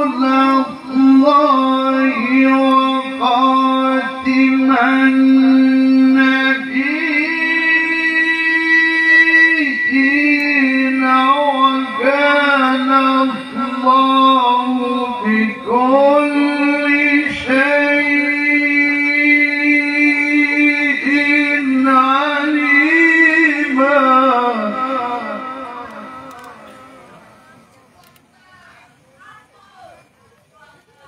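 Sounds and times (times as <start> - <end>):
man chanting melodically: 0.0 - 27.7.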